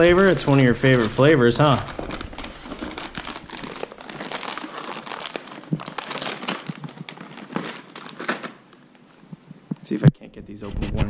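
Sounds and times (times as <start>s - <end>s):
packing paper crinkling: 0.0s - 9.6s.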